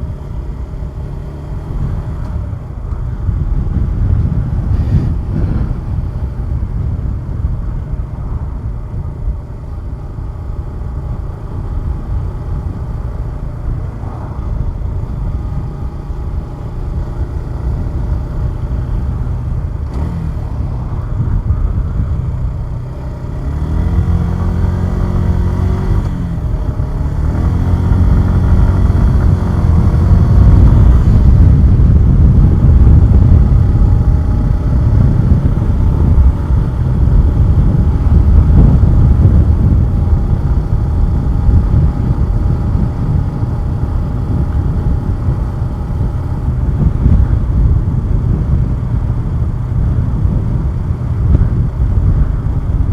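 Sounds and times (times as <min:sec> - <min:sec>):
motorcycle engine revving: 0:00.0 - 0:52.9
wind rumble: 0:00.0 - 0:52.9.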